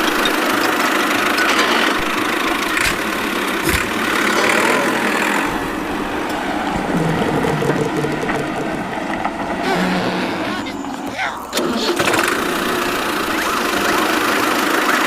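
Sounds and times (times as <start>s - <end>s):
toy tractor motors running: 0.0s - 9.0s, 9.6s - 15.0s.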